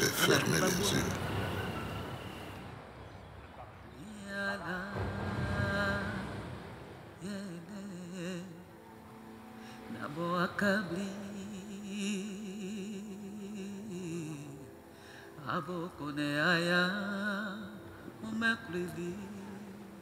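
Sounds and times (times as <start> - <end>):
woman singing wordless melody: 3.9 - 20.0.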